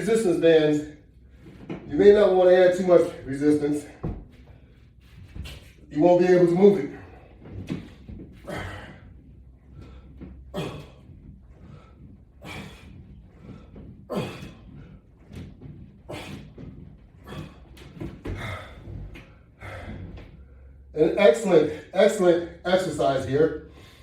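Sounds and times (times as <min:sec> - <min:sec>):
resistance band exercise sound: 0:00.0 - 0:24.0.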